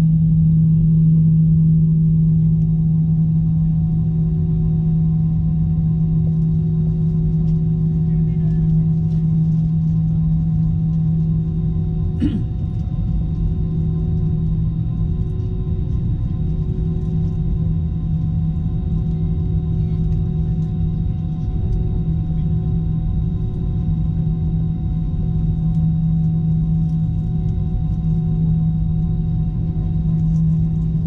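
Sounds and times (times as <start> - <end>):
airplane cabin engine hum: 0.0 - 31.0.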